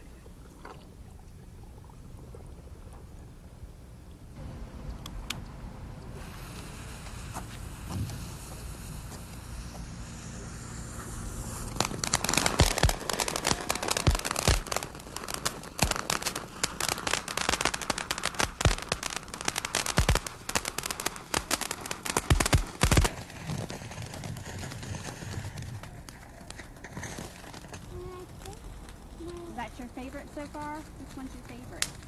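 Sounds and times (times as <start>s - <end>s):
firecrackers popping: 4.4s - 32.0s.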